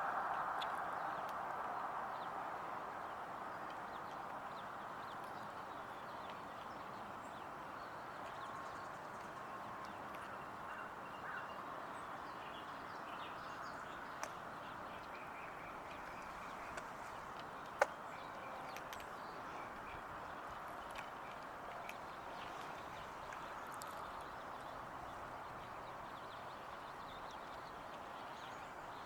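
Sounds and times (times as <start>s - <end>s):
songbird chirps: 0.0s - 29.0s.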